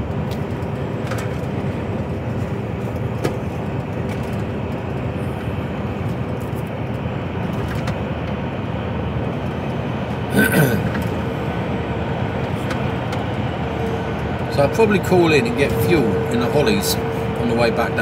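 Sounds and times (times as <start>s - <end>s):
lorry diesel engine and road drone: 0.0s - 18.0s.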